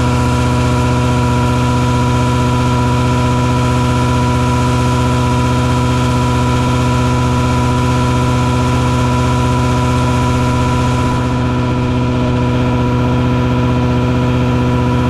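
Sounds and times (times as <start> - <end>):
engine drone: 0.0 - 15.0
fogger whine: 0.0 - 15.0.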